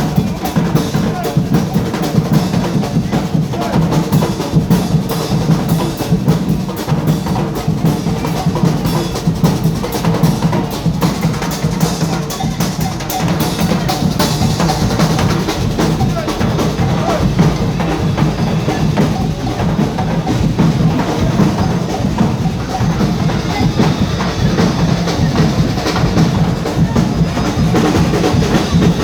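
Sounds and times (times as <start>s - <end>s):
percussion band drumming: 0.0s - 29.0s.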